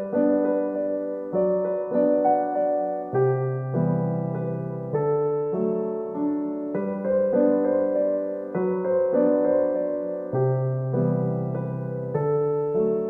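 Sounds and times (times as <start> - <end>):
gentle solo piano piece: 0.0 - 13.0.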